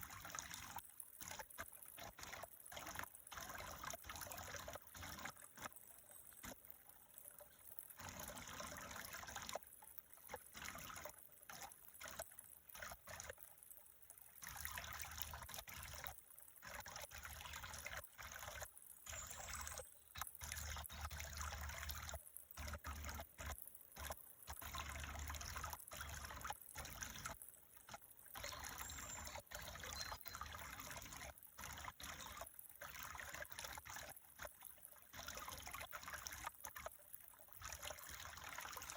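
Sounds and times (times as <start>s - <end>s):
faint trickling water: 0.0s - 38.9s.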